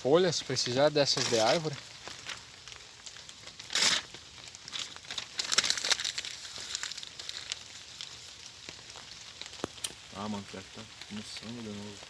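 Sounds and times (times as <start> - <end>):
plastic bag and twigs rustling: 0.0 - 12.0.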